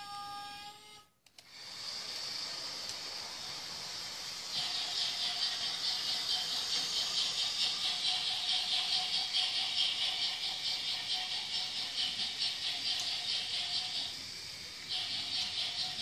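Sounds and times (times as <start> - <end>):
faint motor whine: 0.0 - 16.0
toy train clattering on track: 2.1 - 16.0.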